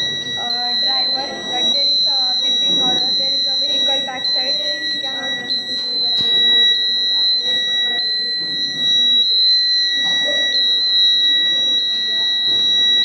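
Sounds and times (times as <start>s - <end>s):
high-pitched electronic buzzer: 0.0s - 13.0s.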